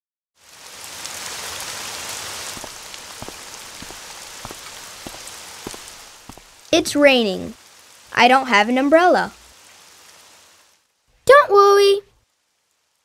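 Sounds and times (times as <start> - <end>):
single raindrops: 0.4 - 10.8
steady rain: 0.4 - 13.0.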